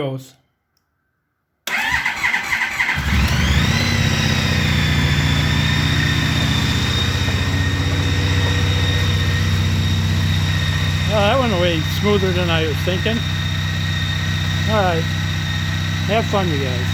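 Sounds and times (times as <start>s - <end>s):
motorcycle engine starting and idling: 1.7s - 16.9s.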